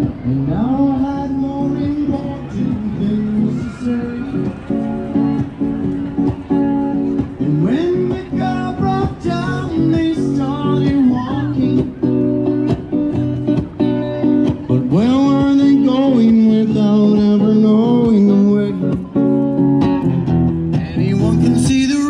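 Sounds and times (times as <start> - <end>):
acoustic guitar strumming: 0.0 - 22.0
person singing bluesy song: 0.0 - 22.0.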